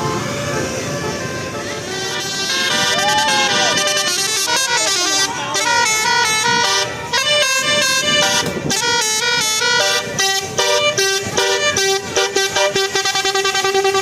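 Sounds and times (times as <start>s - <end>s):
multi-tone air horn tune: 0.0s - 14.0s.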